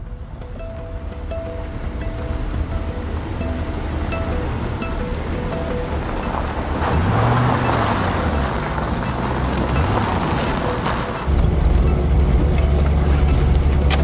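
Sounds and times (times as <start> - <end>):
pickup truck engine and road rumble: 0.0 - 14.0.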